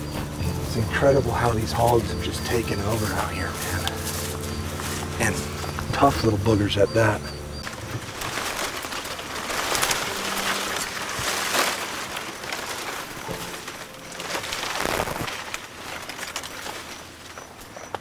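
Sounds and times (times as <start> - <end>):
fronds rustling and scraping: 0.0 - 18.0.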